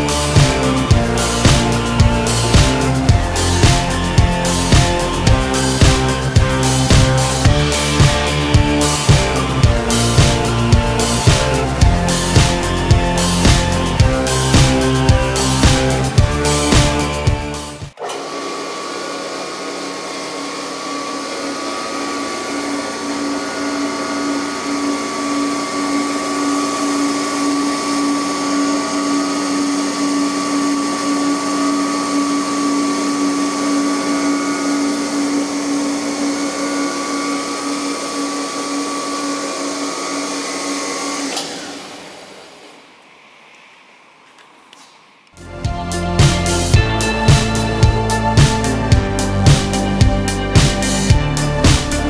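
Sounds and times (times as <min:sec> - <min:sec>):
circular saw blade spinning: 0:00.0 - 0:44.2
saw motor winding down: 0:00.0 - 0:44.2, 0:45.4 - 0:52.0.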